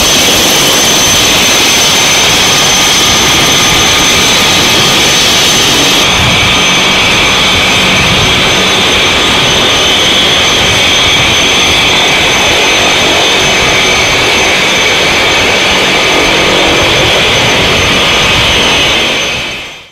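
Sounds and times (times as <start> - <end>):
high-pitched whine: 0.0 - 19.9
jet engine running: 0.0 - 19.9.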